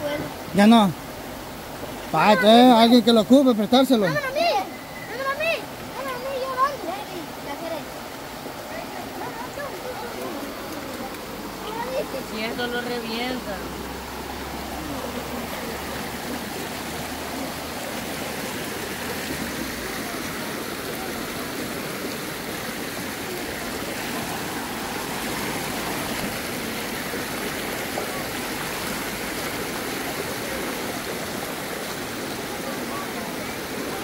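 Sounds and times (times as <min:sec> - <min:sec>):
river splashing over stones: 0:00.0 - 0:34.0.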